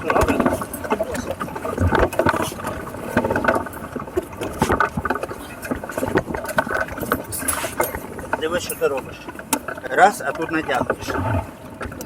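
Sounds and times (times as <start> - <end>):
knocks clicks and rattles on boat: 0.0 - 12.0
steady background noise: 0.0 - 12.0.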